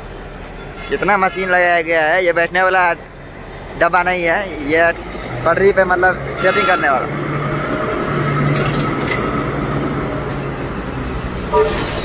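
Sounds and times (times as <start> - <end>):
rail noise: 0.0 - 12.0.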